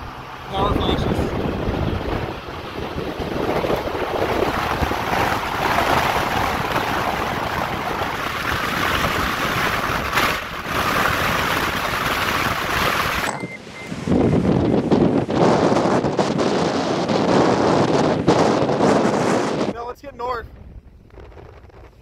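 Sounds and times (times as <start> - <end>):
truck road noise: 0.0 - 19.7
wind buffeting microphone: 0.0 - 22.0
wind rushing past open window: 0.0 - 22.0.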